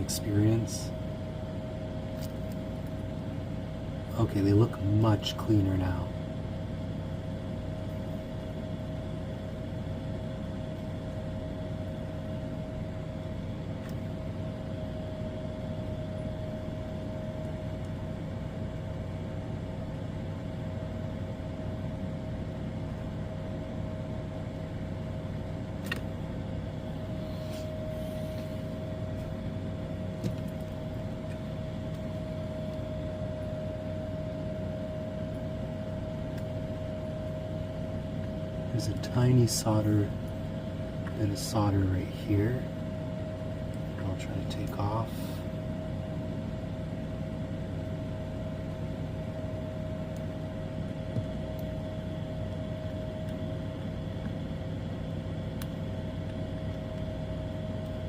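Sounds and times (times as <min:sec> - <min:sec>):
electrical hum: 0:00.0 - 0:58.0
faint high whine: 0:00.0 - 0:58.0.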